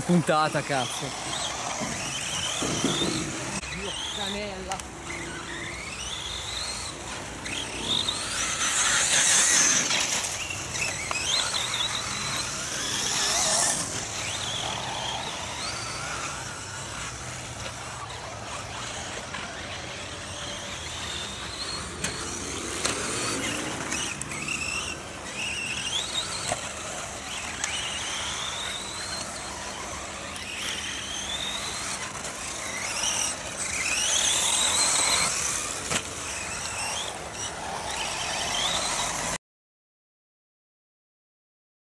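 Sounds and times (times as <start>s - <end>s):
high-pitched rc car motor whine: 0.0s - 39.4s.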